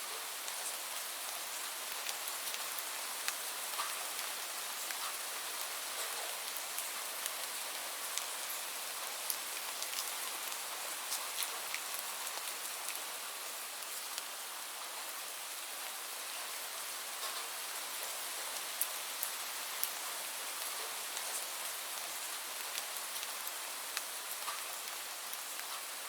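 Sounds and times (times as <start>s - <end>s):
steady rain hiss: 0.0s - 26.0s
raindrops ticking on a surface: 0.1s - 26.0s.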